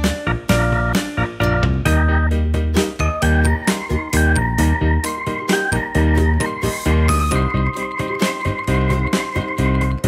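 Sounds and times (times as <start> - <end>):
upbeat music with keyboard: 0.0 - 10.0.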